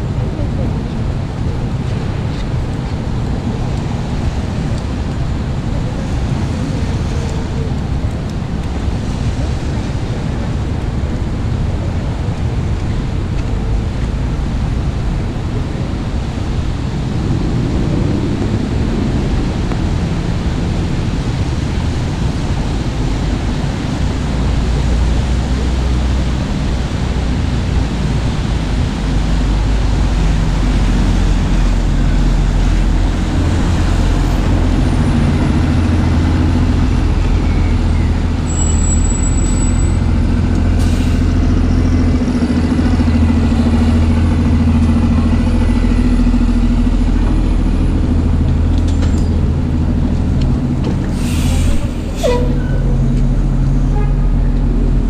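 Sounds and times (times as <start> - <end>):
low engine rumble: 0.0 - 55.0
tyres hissing on wet road: 1.0 - 55.0.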